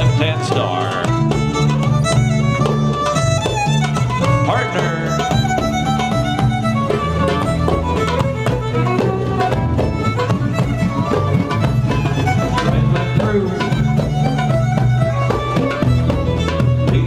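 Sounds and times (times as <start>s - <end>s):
acoustic guitar rhythm: 0.0s - 17.0s
fiddles playing dance tune: 0.0s - 17.0s.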